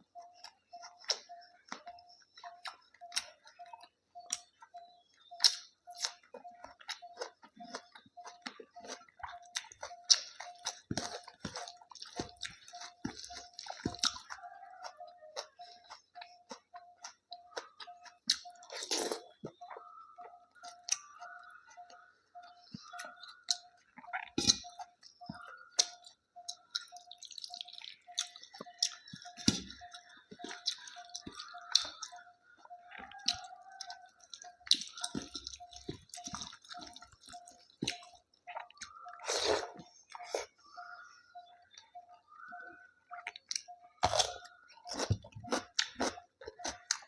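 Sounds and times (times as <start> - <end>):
chewing and wet mouth sounds: 0.0 - 47.0.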